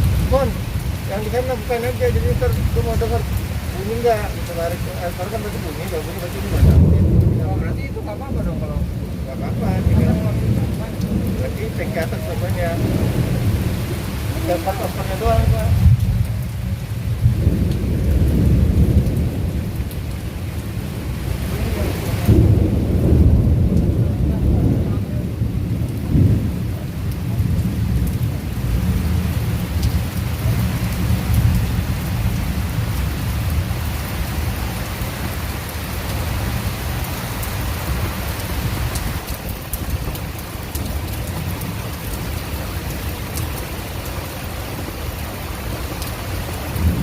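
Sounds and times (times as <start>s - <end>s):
heavy rain: 0.0s - 47.0s
thunder rumbling: 0.0s - 47.0s.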